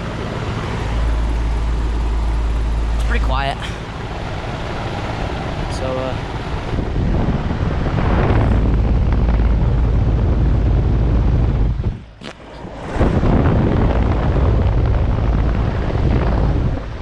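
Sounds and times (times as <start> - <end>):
fan shaking: 0.0 - 17.0
heat pump fan running: 0.0 - 17.0.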